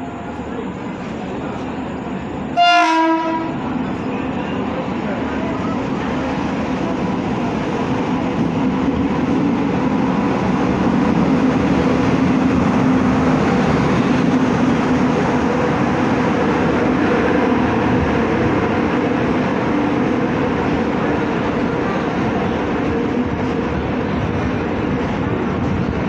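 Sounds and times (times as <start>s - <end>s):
train wheels rushing on rails: 0.0s - 26.0s.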